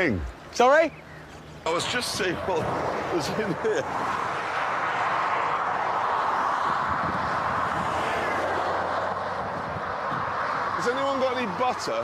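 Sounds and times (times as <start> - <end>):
motorway traffic roaring past: 0.0 - 12.0.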